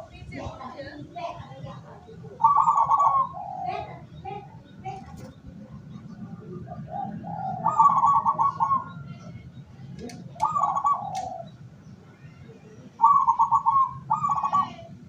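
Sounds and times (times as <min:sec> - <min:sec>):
dove cooing: 0:00.0 - 0:09.2, 0:10.0 - 0:11.6, 0:12.8 - 0:15.0.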